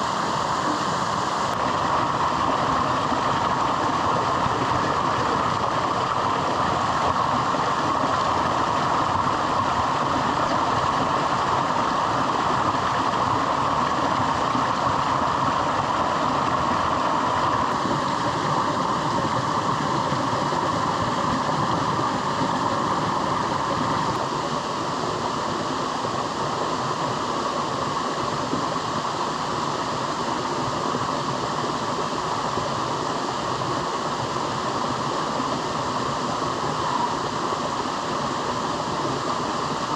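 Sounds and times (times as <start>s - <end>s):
rain: 0.0s - 39.9s.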